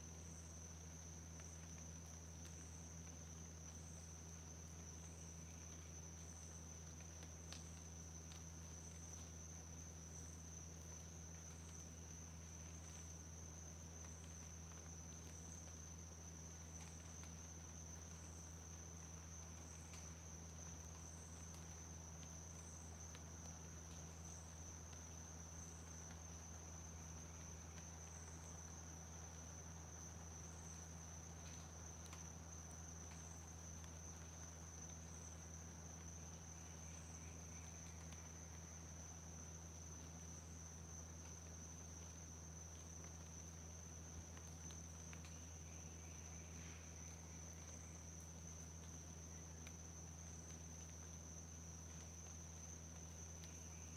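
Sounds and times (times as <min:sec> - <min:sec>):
insect high-pitched trill: 0:00.0 - 0:53.9
low steady hum: 0:00.0 - 0:53.9.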